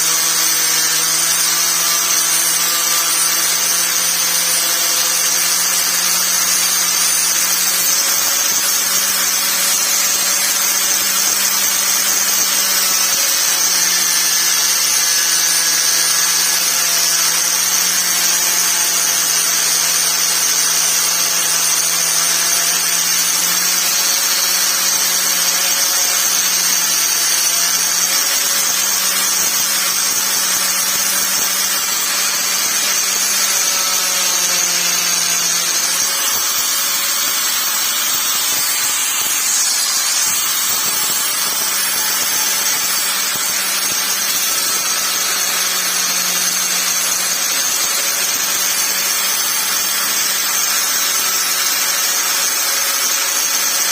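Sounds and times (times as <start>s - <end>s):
angle grinder whining: 0.0s - 53.9s.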